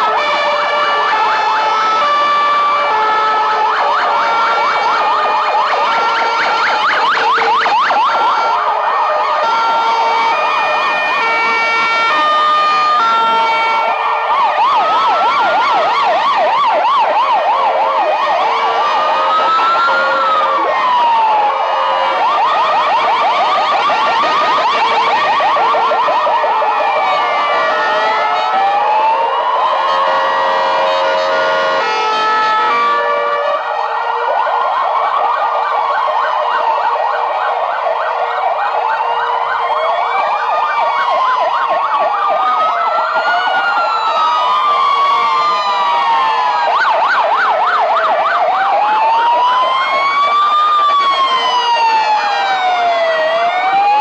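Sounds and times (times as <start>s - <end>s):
ambulance siren wail: 0.0s - 54.0s
ambulance siren yelp: 0.0s - 54.0s.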